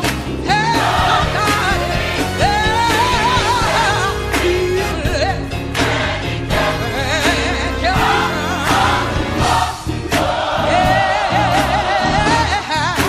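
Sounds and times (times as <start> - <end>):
band accompaniment: 0.0 - 13.0
gospel choir singing: 0.0 - 13.0.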